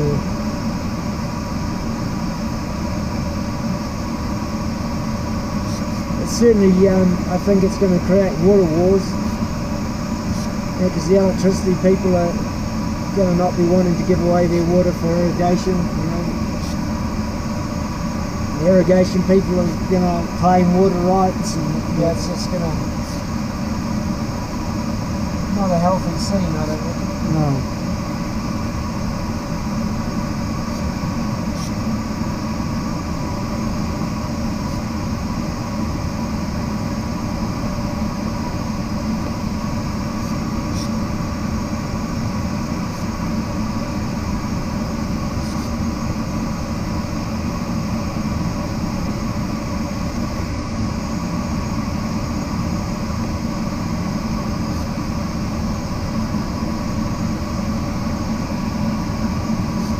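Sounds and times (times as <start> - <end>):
cockpit hum: 0.0 - 59.9.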